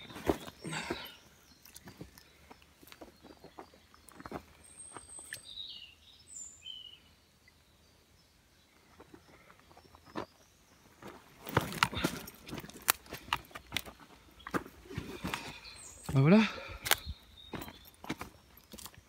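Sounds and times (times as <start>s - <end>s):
footsteps on loose dry soil: 0.0s - 5.8s, 8.8s - 19.0s
bird chirps: 0.0s - 11.2s, 13.4s - 19.0s.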